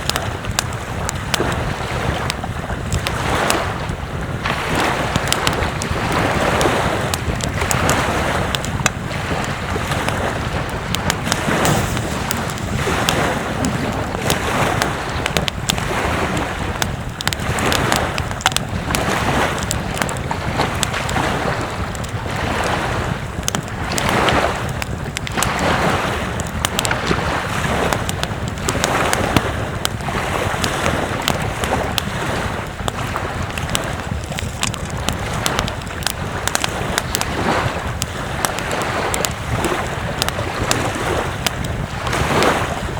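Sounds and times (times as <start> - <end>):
ocean surf rushing: 0.0 - 42.9
wind buffeting microphone: 0.0 - 42.9.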